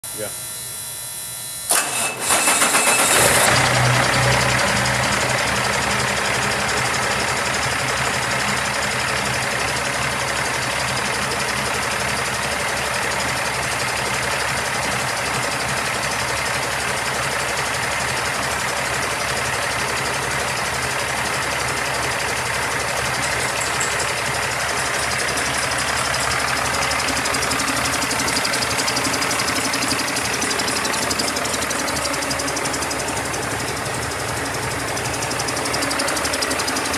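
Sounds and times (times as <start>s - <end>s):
diesel engine idling: 1.8s - 36.9s.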